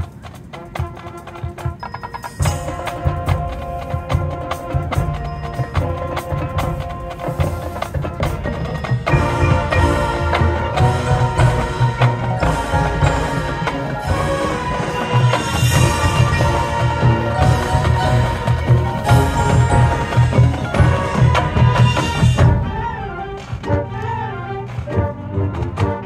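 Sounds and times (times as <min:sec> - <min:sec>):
clicking percussion strokes: 0:00.0 - 0:26.0
marching band playing: 0:00.0 - 0:26.0.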